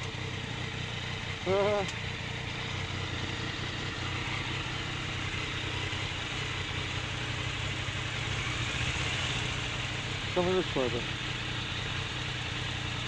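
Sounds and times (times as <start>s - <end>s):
air and road noise: 0.0s - 13.0s
motorcycle engine running: 0.0s - 13.0s.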